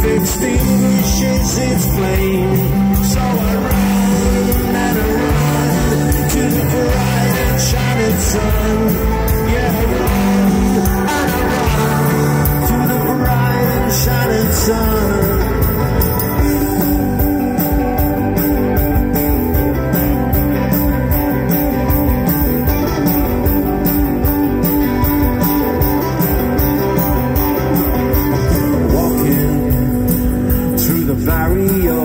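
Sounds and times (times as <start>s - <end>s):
bass guitar: 0.0s - 32.0s
drums playing steady beat: 0.0s - 32.0s
electric guitars: 0.0s - 32.0s.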